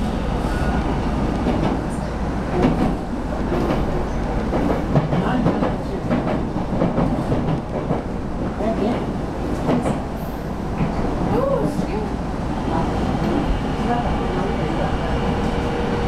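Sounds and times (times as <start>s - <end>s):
wheels rumbling on rail: 0.0s - 16.0s.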